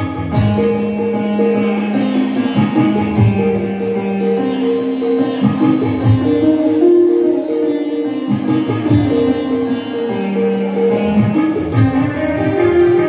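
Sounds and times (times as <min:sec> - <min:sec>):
electronic keyboard melody: 0:00.0 - 0:13.0
tabla and rhythm pad beat: 0:00.0 - 0:13.0.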